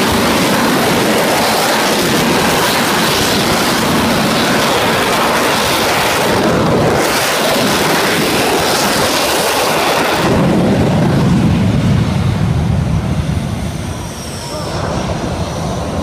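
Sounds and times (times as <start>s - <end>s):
jet engine running: 0.0s - 16.0s.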